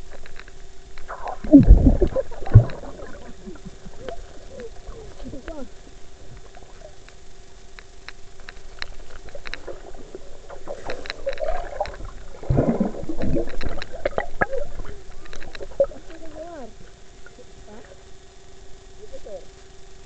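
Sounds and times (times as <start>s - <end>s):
sharp clicks and knocks underwater: 0.0s - 17.9s
faint steady hum: 0.0s - 20.0s.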